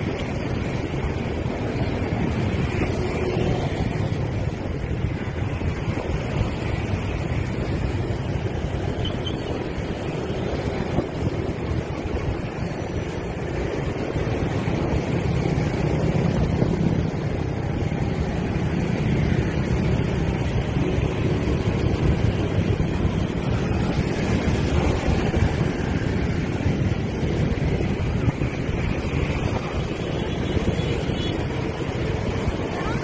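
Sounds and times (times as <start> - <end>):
motorbike and scooter traffic: 0.0 - 33.0
wind rushing over microphone: 0.0 - 33.0.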